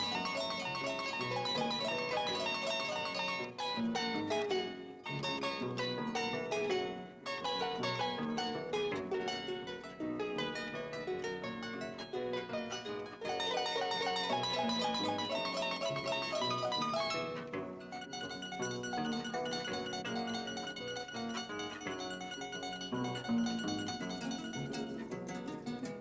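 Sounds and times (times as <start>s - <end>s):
plucked string accompaniment: 0.0s - 26.0s.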